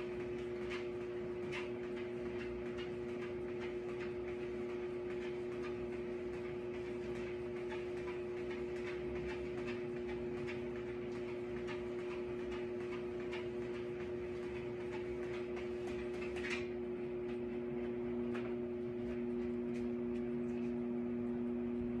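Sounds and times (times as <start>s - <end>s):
treadmill belt ticking: 0.0s - 19.8s
treadmill motor hum: 0.0s - 22.0s.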